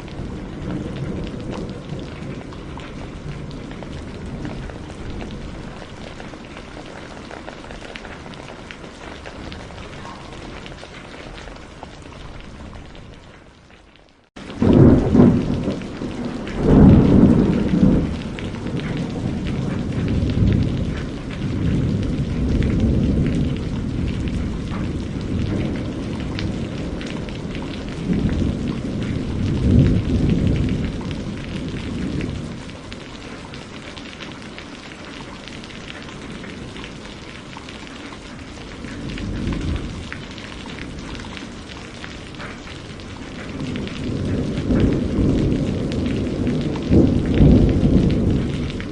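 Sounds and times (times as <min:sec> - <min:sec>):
rolling thunder: 0:00.0 - 0:13.2, 0:14.4 - 0:33.8, 0:38.4 - 0:48.9
heavy rain: 0:00.0 - 0:48.9.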